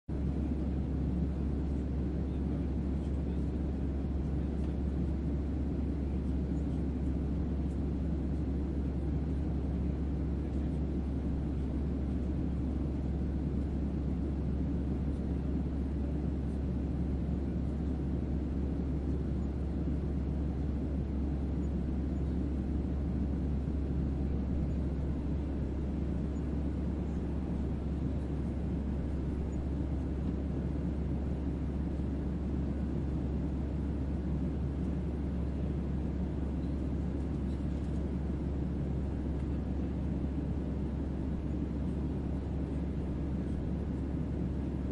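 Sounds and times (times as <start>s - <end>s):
jet cabin engine rumble: 0.1s - 44.9s.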